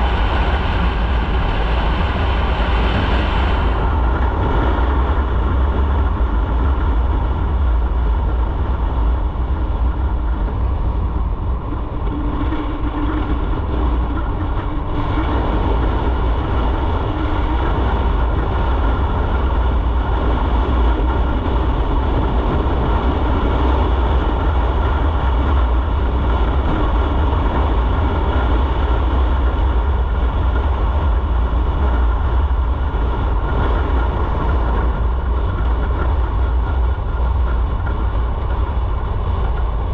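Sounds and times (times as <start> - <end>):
motorcycle engine drone: 0.0 - 39.9
wind rushing on microphone: 0.0 - 39.9.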